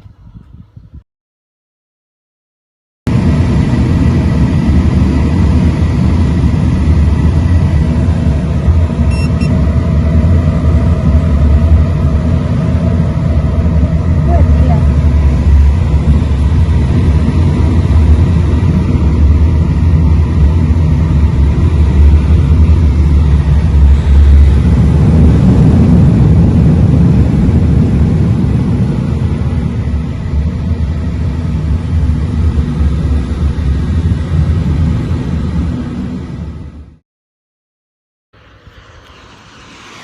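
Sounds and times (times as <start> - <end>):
airflow rush with wind rumble: 0.0 - 1.0, 3.1 - 37.0, 38.4 - 40.0.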